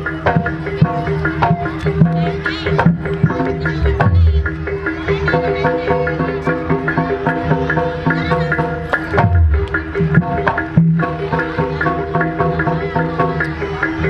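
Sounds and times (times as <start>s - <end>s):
hand drums fast rhythm: 0.0s - 14.0s.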